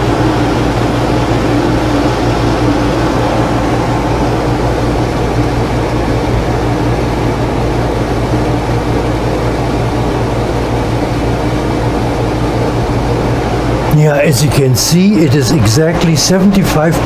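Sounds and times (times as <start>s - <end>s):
air conditioner rushing: 0.0s - 17.0s
low hum: 0.0s - 17.0s.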